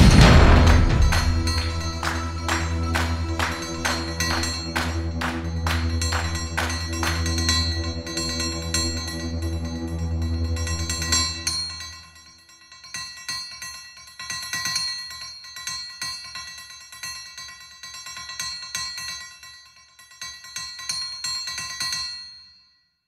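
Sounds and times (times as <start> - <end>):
bell-like tones ringing: 1.1 - 22.9.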